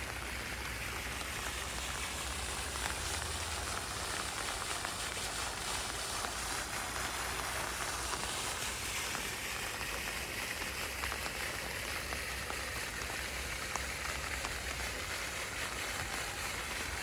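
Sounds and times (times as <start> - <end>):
water hissing: 0.0 - 17.0.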